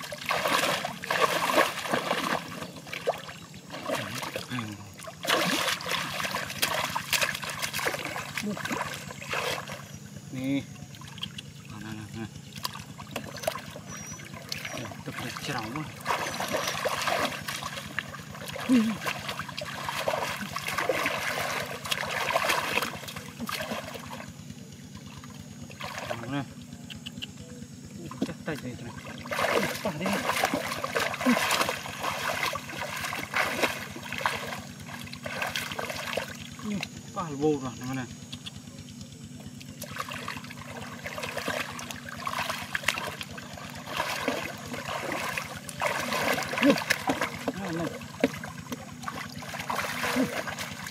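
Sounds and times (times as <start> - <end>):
water splashing: 0.0 - 10.0, 10.8 - 24.3, 24.9 - 26.4, 28.1 - 37.2, 39.7 - 50.9
steady low hum: 0.0 - 50.9.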